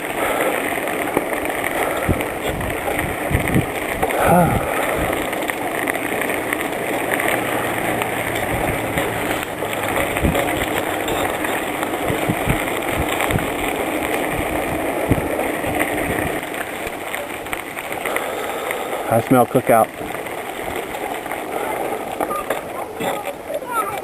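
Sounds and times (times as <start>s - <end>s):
bicycle rolling on trail: 0.0s - 24.0s.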